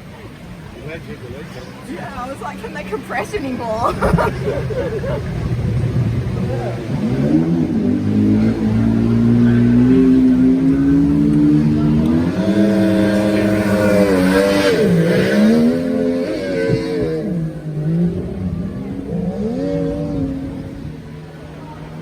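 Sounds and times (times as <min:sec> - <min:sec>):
jet boat engine revving: 0:00.0 - 0:22.0.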